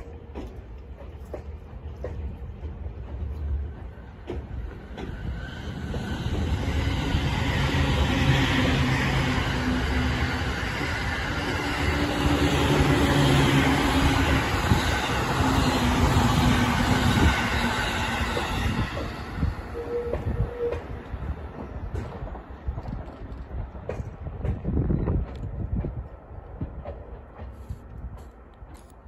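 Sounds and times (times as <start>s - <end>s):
train cars rumbling on rails: 0.0s - 29.0s.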